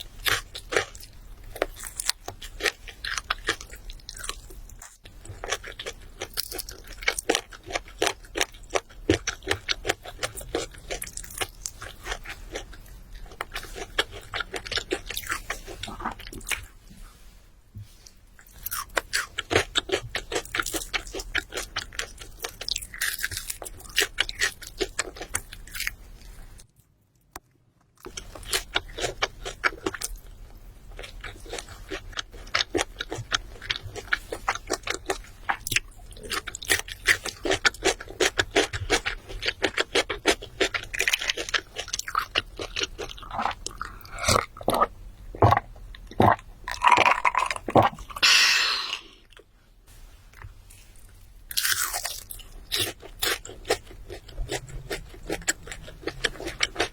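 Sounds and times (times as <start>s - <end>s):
chewing and crunching food: 0.0s - 49.5s, 50.3s - 56.9s.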